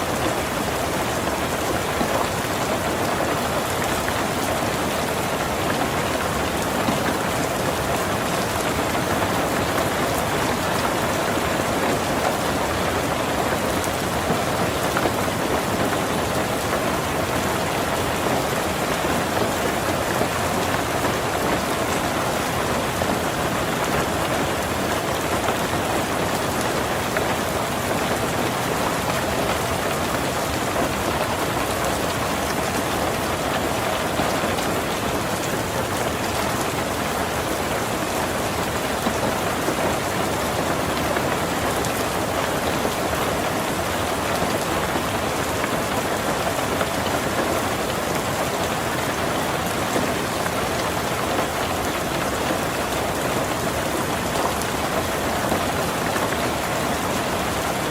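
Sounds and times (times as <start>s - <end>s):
heavy rain on a tin roof: 0.0s - 57.9s.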